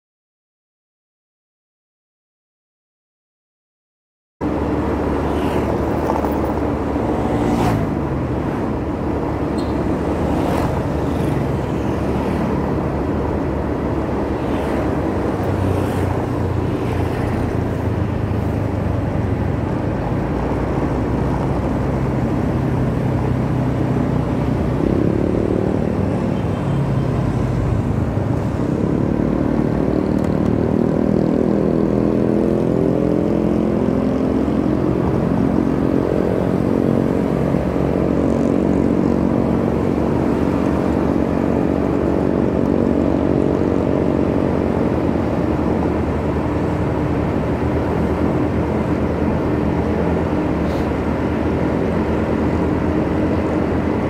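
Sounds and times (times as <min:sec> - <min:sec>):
road and wind noise: 0:04.4 - 0:54.0.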